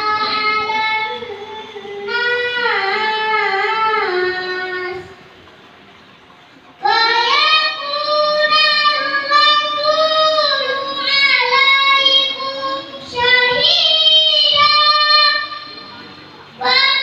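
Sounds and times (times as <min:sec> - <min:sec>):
boy reciting melodically: 0:00.0 - 0:05.3, 0:06.8 - 0:17.0.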